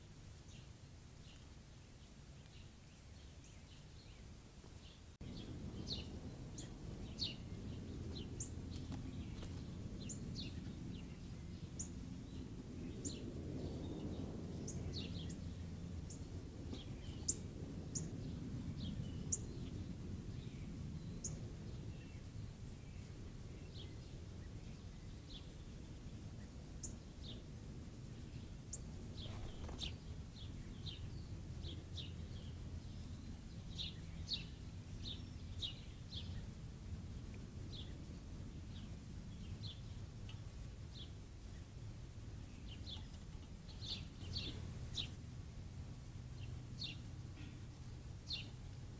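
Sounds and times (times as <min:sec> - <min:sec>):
songbirds chirping: 0:00.0 - 0:48.9
low background rumble: 0:02.0 - 0:48.9.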